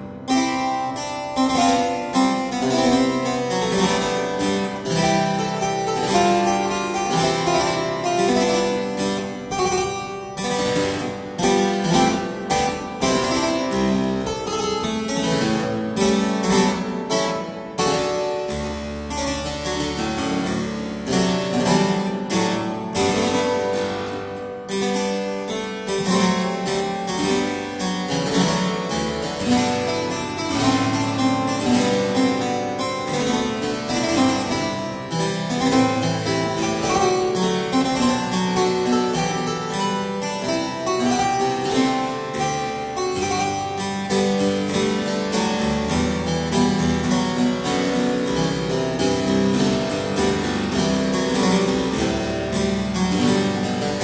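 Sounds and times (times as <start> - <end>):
harpsichord playing: 0.0 - 54.0.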